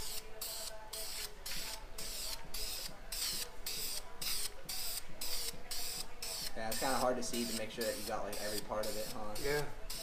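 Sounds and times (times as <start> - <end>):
aerosol can spraying: 0.0 - 10.0.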